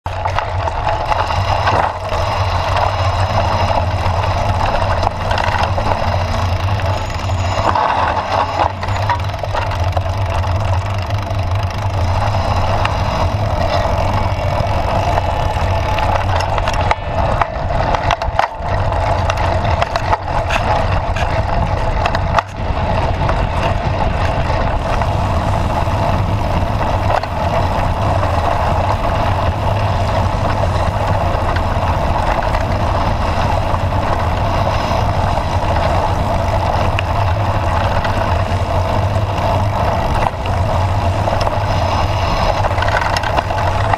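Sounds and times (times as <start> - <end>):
bike knocking over bumps: 0.1 - 43.9
bike tyres rumbling on dirt: 0.1 - 43.9.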